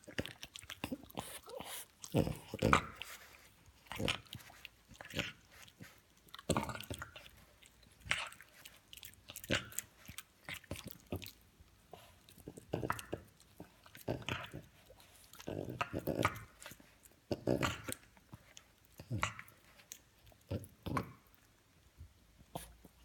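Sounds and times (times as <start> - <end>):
dog chewing a chew toy: 0.0 - 23.0.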